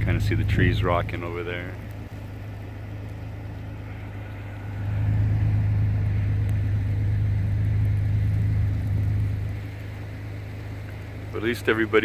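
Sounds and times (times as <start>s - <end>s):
blizzard wind buffeting microphone: 0.0s - 12.0s.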